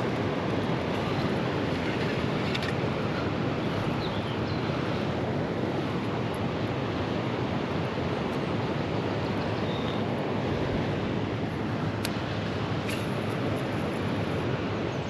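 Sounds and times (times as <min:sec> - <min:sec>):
fast-flowing white water rushing: 0:00.0 - 0:14.9.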